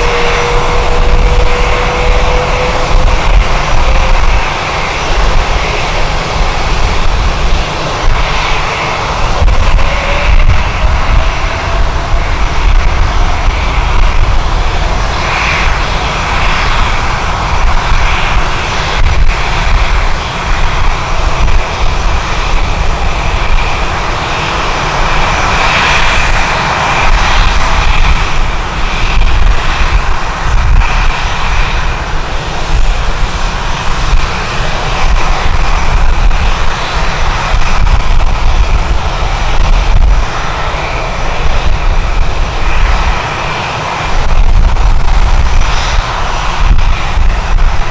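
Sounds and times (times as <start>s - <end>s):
jet engines running: 0.0s - 47.9s
strong wind on microphone: 0.0s - 47.9s.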